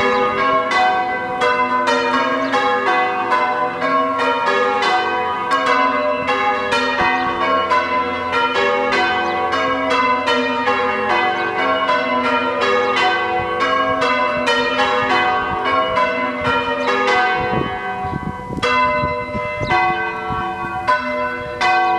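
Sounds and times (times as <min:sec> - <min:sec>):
church bells ringing: 0:00.0 - 0:21.9.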